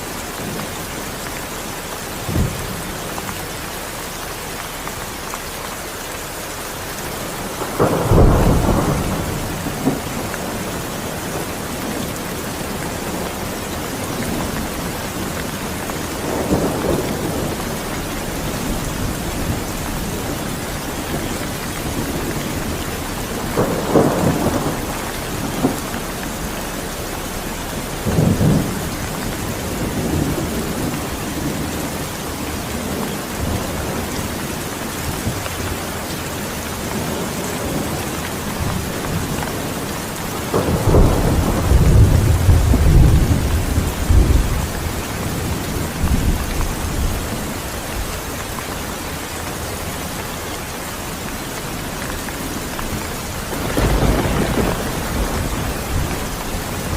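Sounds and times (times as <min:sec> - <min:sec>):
heavy rain hissing: 0:00.0 - 0:56.9
thunder rumbling: 0:07.0 - 0:48.1, 0:51.6 - 0:56.9.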